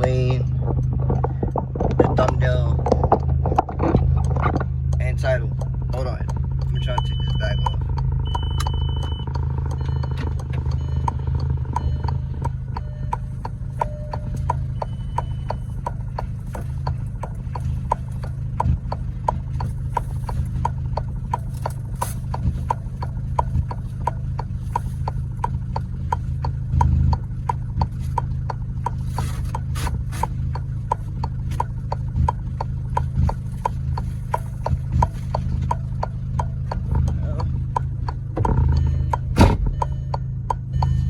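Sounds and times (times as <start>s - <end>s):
car engine idling: 0.0s - 41.0s
indicator relay clicking: 2.2s - 29.6s, 30.5s - 41.0s.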